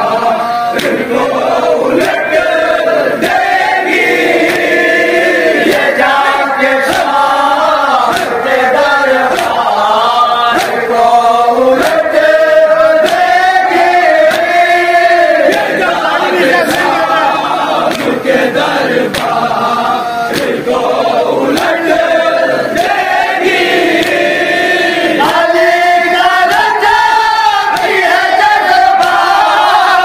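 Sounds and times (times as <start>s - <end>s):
men chanting through pa system: 0.0s - 30.0s.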